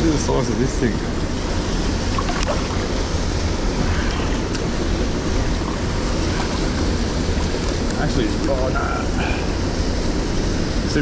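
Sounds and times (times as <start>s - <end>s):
river water over rocks: 0.0s - 10.8s.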